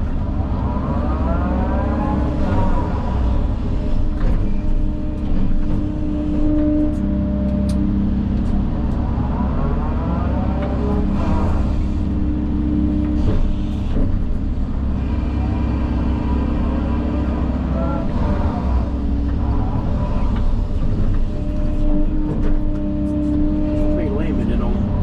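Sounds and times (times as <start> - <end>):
heavy machinery engine working: 0.0 - 25.0.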